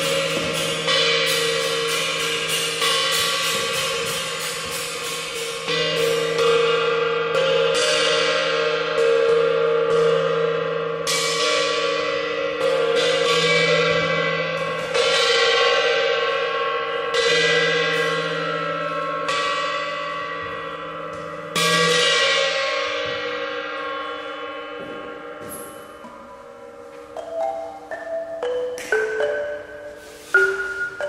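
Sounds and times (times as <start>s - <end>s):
gong-like percussion ringing: 0.0s - 31.0s.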